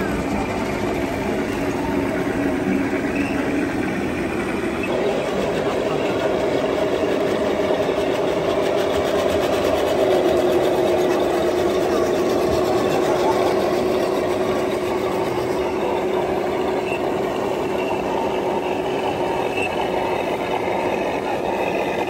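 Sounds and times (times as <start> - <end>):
model tank motors whining: 0.0 - 22.0.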